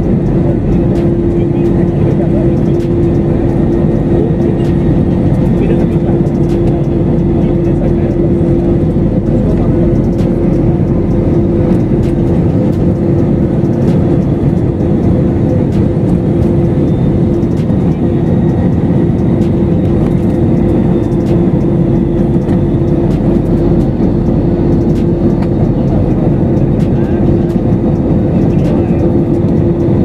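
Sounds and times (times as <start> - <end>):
jet engines rumbling in cabin: 0.0 - 30.0.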